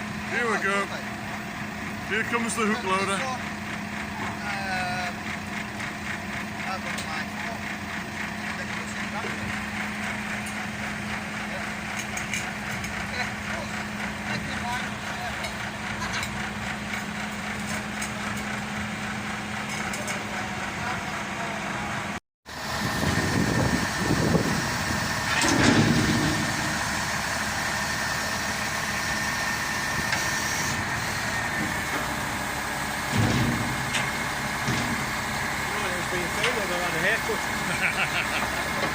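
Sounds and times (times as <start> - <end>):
lorry diesel engine idling: 0.0 - 38.9.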